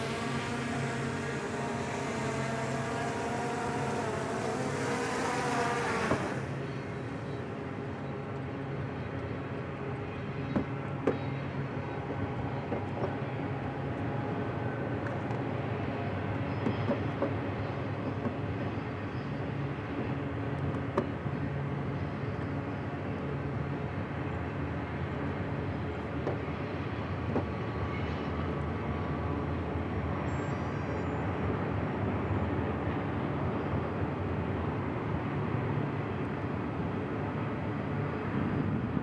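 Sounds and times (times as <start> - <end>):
diesel engine drone with hiss: 0.0 - 39.0
low steady train rumble: 0.0 - 39.0.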